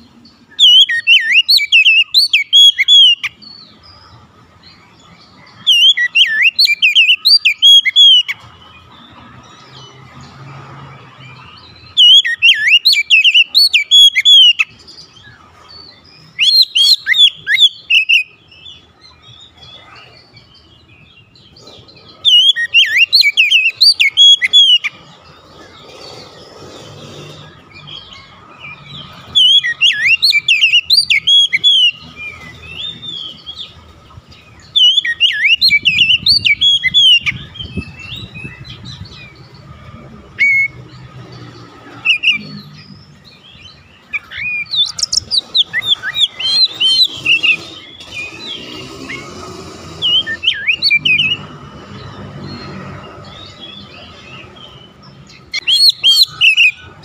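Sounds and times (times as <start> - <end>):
bird whistles and trills: 0.0 - 4.1, 4.8 - 10.0, 11.5 - 33.8, 34.6 - 39.6, 40.3 - 57.0.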